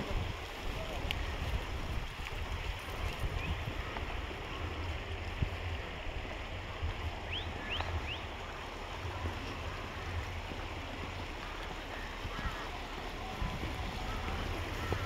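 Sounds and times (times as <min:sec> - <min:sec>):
stream running over stones: 0:00.0 - 0:15.0
wind buffeting microphone: 0:00.0 - 0:15.0.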